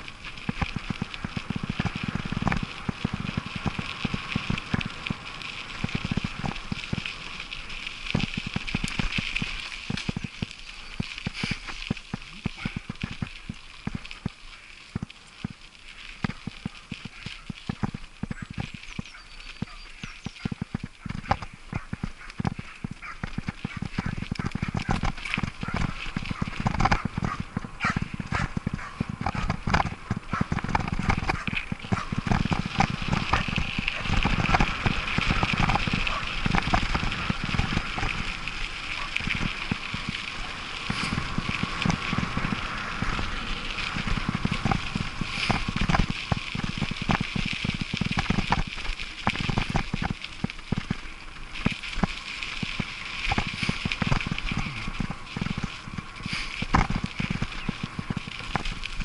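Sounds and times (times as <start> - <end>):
bicycle tyres crunching on dirt: 0.0 - 59.0
bike rattling over bumps: 0.0 - 59.0.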